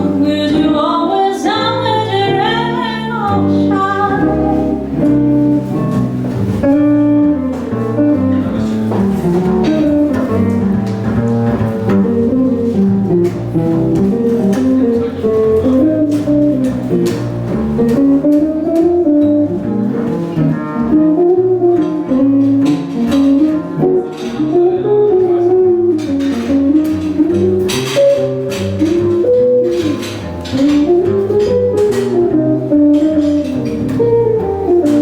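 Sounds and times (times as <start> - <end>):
jazz guitar melody: 0.0 - 35.0
plucked double bass: 0.0 - 35.0.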